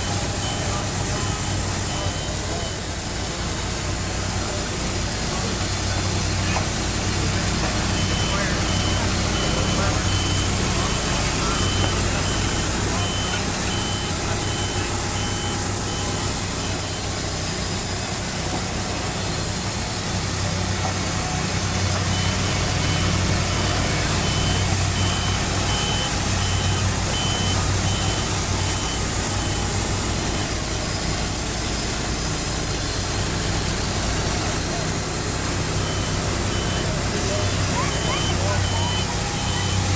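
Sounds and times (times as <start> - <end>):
reversing beeper: 0.0 - 4.6, 5.4 - 17.9, 20.4 - 32.0, 35.6 - 39.9
sawmill engines running: 0.0 - 39.9.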